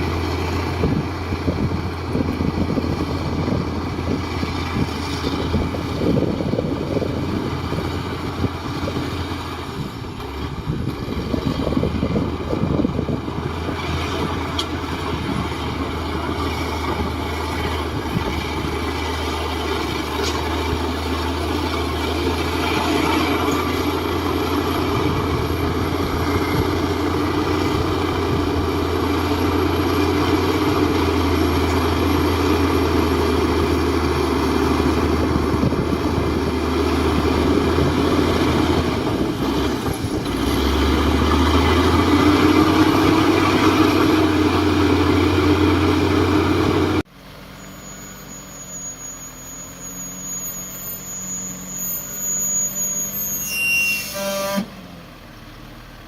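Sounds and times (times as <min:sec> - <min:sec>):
diesel earthmoving machinery drone: 0:00.0 - 0:56.0.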